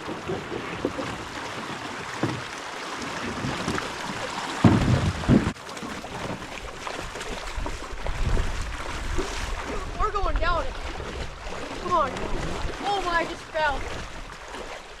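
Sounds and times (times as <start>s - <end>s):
water rushing: 0.0s - 15.0s
wind: 0.0s - 15.0s.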